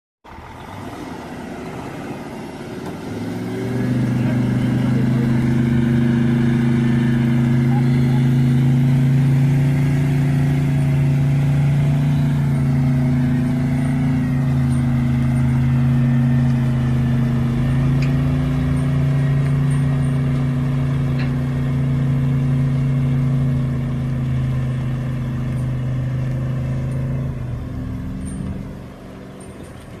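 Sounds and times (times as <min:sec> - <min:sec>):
truck engines droning under load: 0:00.2 - 0:30.0.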